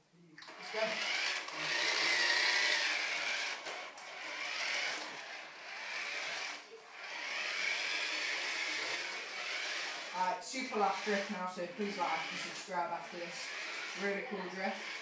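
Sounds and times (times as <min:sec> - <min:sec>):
toy car electric motor whirring: 0:00.5 - 0:15.0.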